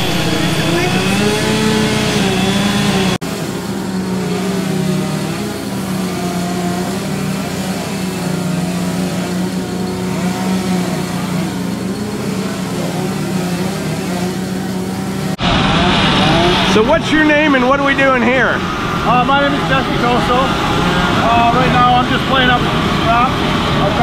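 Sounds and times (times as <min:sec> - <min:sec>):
small engines revving: 0:00.0 - 0:24.0.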